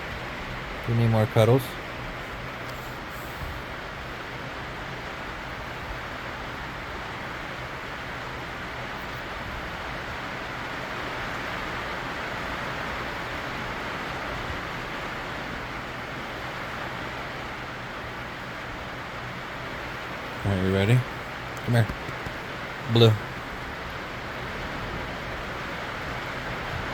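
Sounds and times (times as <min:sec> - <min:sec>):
heavy rain hiss: 0:00.0 - 0:26.9.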